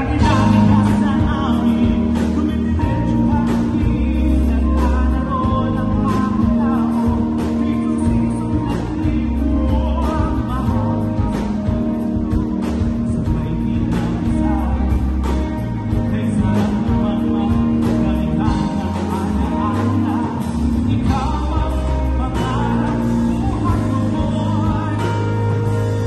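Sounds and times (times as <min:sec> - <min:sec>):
held bass notes: 0:00.0 - 0:26.0
live pop band through speakers: 0:00.0 - 0:26.0
man singing: 0:00.0 - 0:26.0
steady drum beat: 0:00.0 - 0:26.0.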